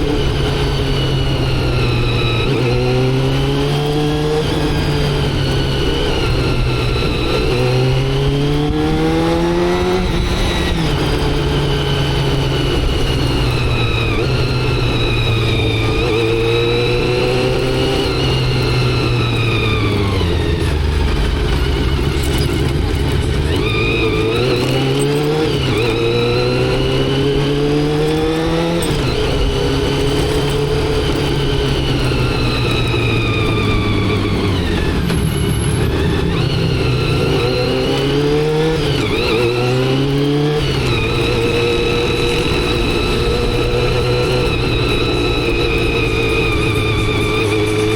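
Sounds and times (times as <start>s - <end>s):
motorcycle engine accelerating: 0.0s - 47.9s
wind and road noise: 0.0s - 47.9s.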